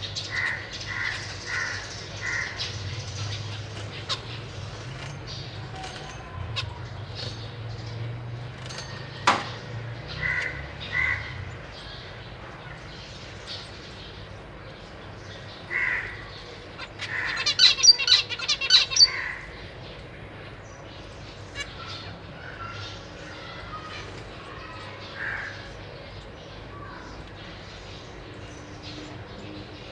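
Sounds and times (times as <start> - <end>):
finches calling: 0.0 - 9.0, 10.0 - 20.1, 20.7 - 29.9.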